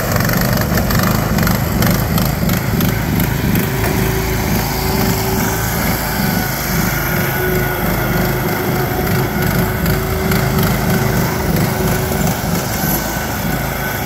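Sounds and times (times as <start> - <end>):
mower engines running hard: 0.0 - 14.0
steady whine: 0.0 - 14.0.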